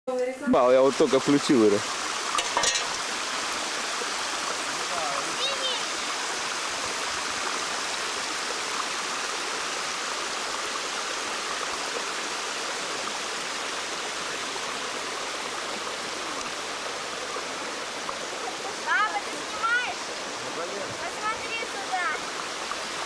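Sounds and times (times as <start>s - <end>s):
stream rushing: 0.4s - 23.0s.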